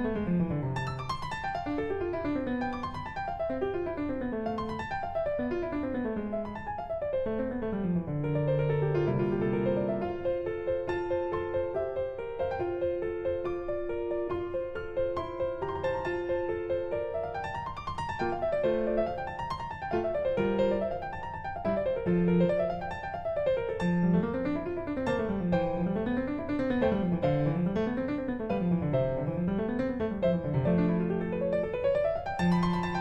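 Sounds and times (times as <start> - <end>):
piano arpeggios: 0.0 - 33.0.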